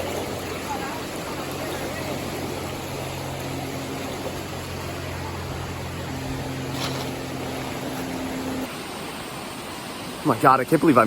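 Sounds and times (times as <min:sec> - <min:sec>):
low steady hum: 0:00.0 - 0:10.1
rushing river water: 0:00.0 - 0:11.0.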